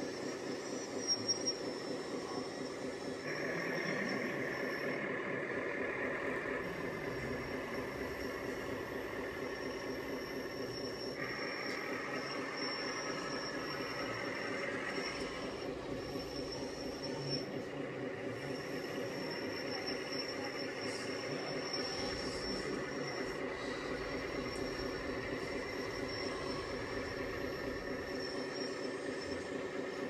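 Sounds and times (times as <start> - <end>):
high whine: 0.0 - 30.0
model engine pulsing drone: 0.0 - 30.0.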